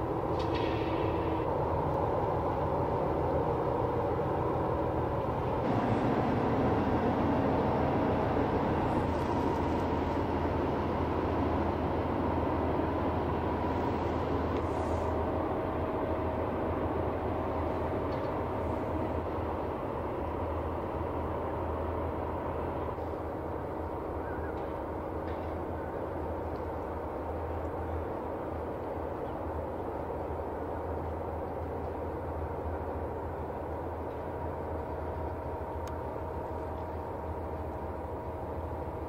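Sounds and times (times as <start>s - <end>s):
faint steady whine: 0.0s - 39.0s
ship engine droning: 0.0s - 39.0s.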